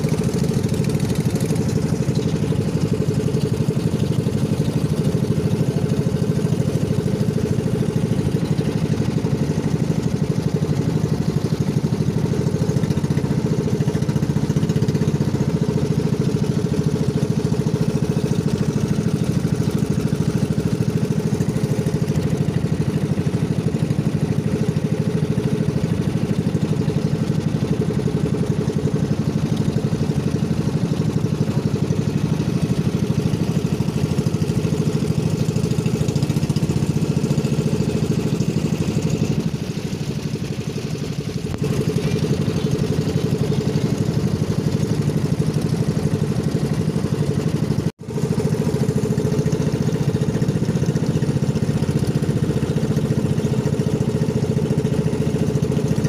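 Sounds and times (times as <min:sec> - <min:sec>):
motorboat engine chugging: 0:00.0 - 0:56.0.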